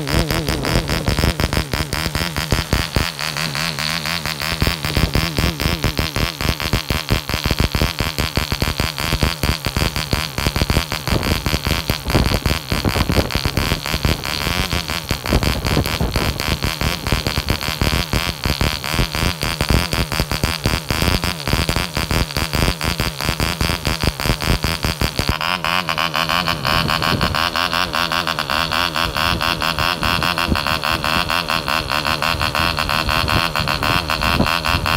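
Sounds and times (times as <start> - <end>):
model engine buzzing: 0.0 - 34.9.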